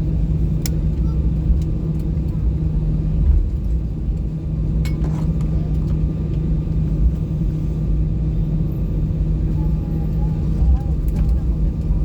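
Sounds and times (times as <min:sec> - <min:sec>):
airplane cabin rumble and hum: 0:00.0 - 0:12.0.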